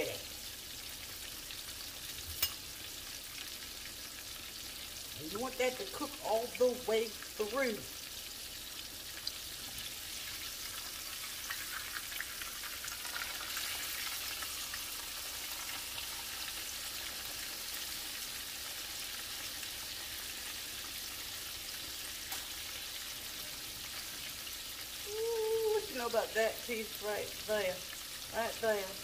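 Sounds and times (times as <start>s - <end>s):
meat deep-frying in oil: 0.0s - 29.0s.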